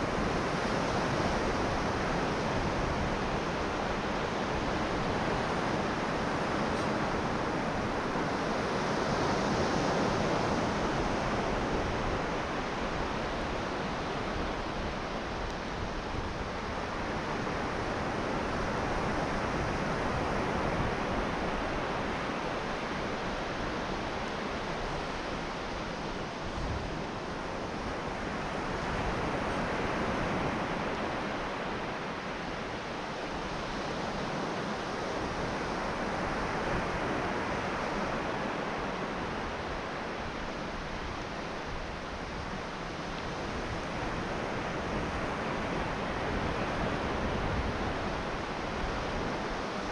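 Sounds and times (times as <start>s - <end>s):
waves breaking on a beach: 0.0s - 49.9s
wind: 0.0s - 49.9s.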